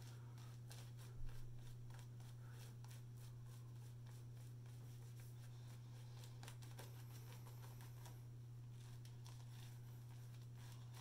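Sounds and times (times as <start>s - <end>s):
shaving brush swishing lather: 0.0s - 11.0s
steady low hum: 0.0s - 11.0s.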